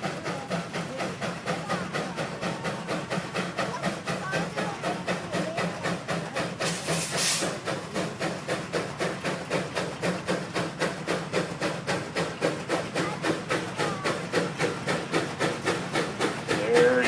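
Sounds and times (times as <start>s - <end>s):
steam engine exhaust chuffing: 0.0s - 17.0s.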